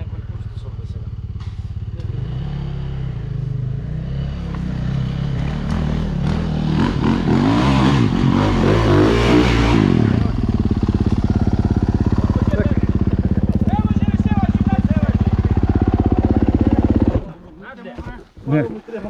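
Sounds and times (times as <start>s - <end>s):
dirt bike revving: 0.0s - 17.4s.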